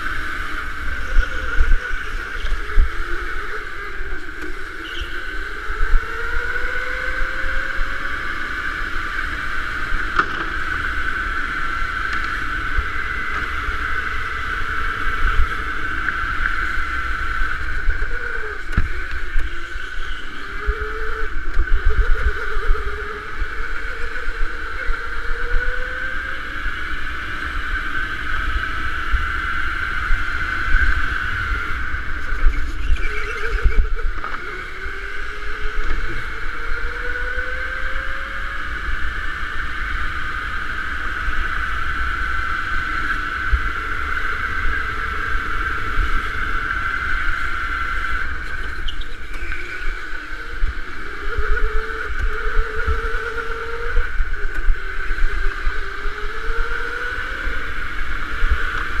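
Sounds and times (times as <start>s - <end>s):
electric go-kart motor whining: 0.0s - 59.0s
rough low rumble on microphone: 0.0s - 59.0s.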